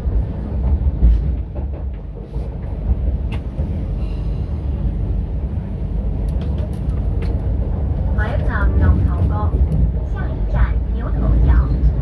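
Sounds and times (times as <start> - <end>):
train wheels and motors rumbling: 0.0 - 12.0.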